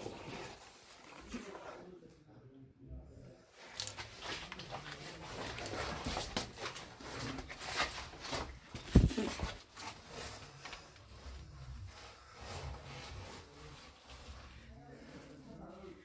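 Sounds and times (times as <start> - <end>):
clothing and gear scraping rock: 0.0 - 2.0, 4.0 - 16.0.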